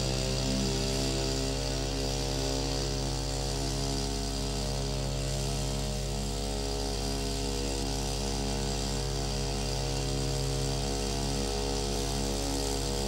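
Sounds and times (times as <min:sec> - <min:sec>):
small pump engine running: 0:00.0 - 0:13.0.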